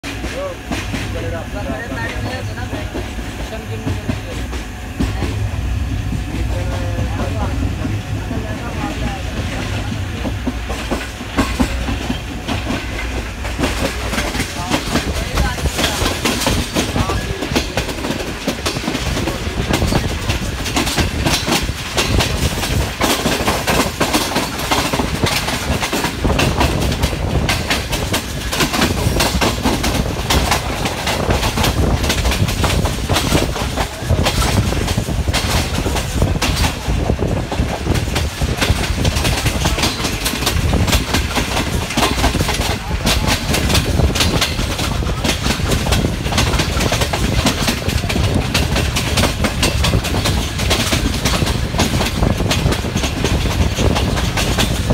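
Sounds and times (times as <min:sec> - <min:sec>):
rolling rumble: 0:00.0 - 0:54.9
train wheels clattering on rails: 0:00.0 - 0:54.9.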